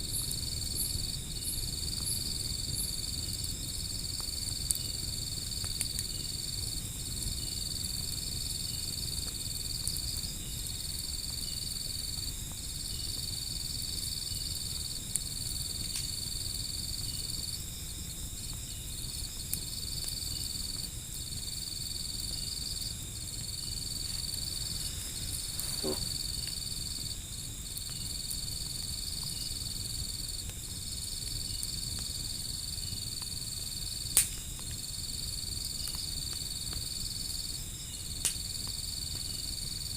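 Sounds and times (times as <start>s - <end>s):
fire popping and cracking: 0.0s - 39.9s
insects trilling: 0.0s - 39.9s
wood fire rustling rumble: 0.0s - 39.9s.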